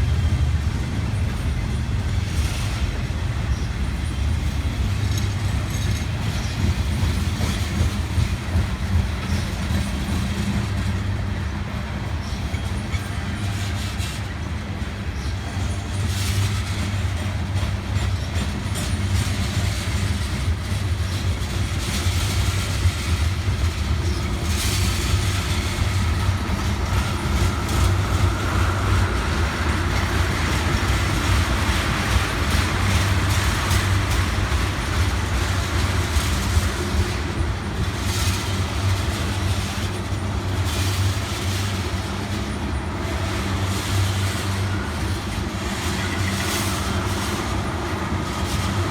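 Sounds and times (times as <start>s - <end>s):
freight train rumbling past: 0.0s - 48.9s
wheels clicking over rail joints: 0.0s - 48.9s.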